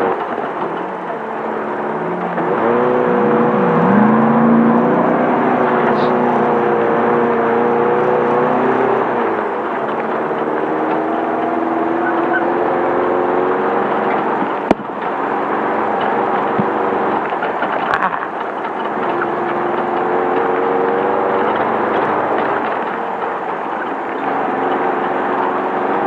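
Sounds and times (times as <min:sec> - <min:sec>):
car engine running under load: 0:00.0 - 0:26.0.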